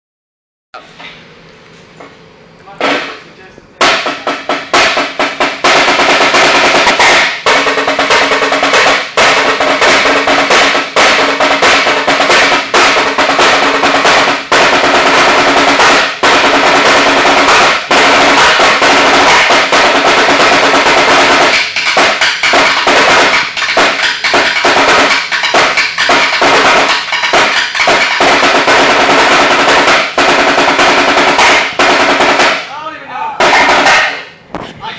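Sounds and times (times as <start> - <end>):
marching snare drums: 2.8 - 3.2, 3.8 - 32.8, 33.4 - 34.4.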